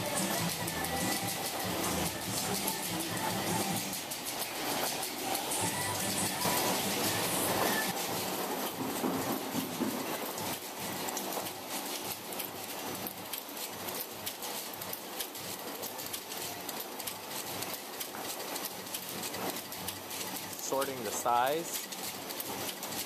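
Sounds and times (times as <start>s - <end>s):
egg grading machine clattering: 0.0s - 23.0s.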